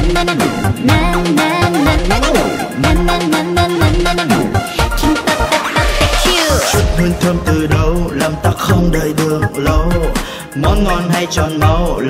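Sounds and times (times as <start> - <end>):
upbeat music with drums and bass: 0.0 - 12.0.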